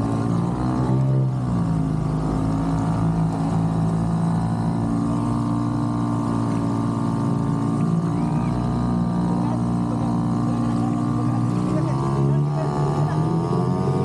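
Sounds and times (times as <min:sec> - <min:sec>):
bumper boat motor running: 0:00.0 - 0:14.0.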